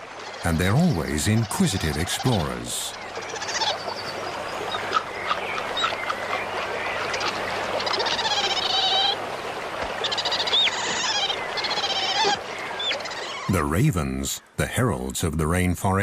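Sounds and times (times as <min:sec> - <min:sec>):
birds trilling and chirping: 0:00.0 - 0:14.5
steady background hiss: 0:00.0 - 0:16.0.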